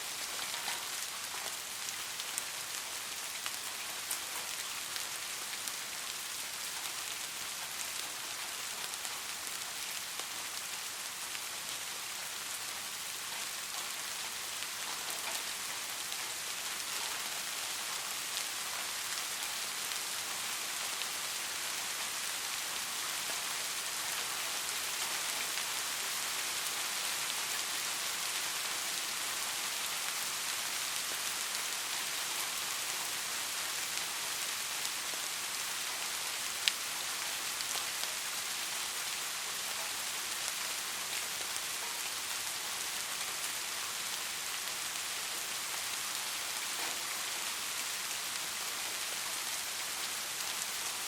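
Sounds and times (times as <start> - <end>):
rain falling on a street: 0.0 - 51.0.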